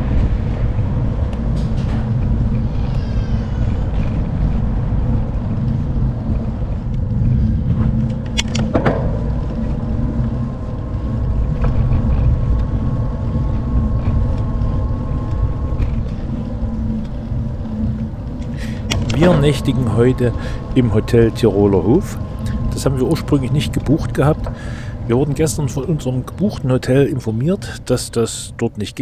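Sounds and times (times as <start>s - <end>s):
bike tyre noise: 0.0s - 29.0s
faint steady hum: 0.0s - 29.0s
wind rumble on microphone: 0.0s - 29.0s.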